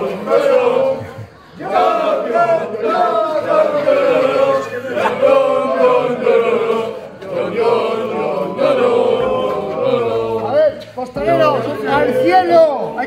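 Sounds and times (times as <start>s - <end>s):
men chanting in unison: 0.0s - 12.6s.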